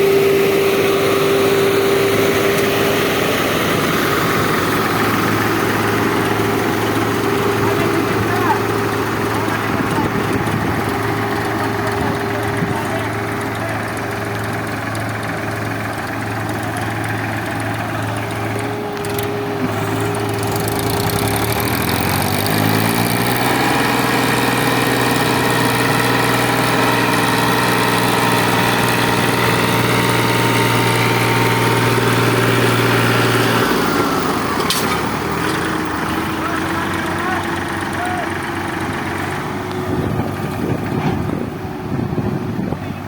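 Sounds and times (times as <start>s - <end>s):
diesel tractor engine revving: 0.0s - 43.0s.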